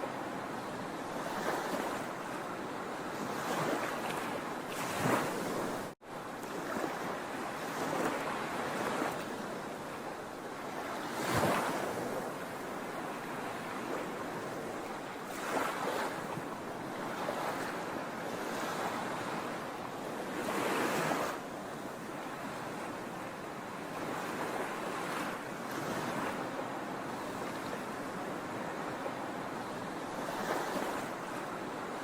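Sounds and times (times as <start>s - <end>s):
waves breaking: 1.0s - 32.0s.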